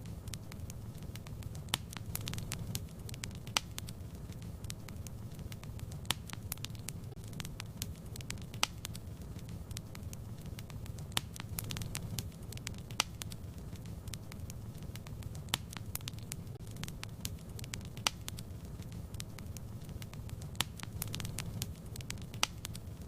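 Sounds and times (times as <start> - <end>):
fire crackling and popping: 0.0 - 23.0
flames rumbling: 0.0 - 23.0.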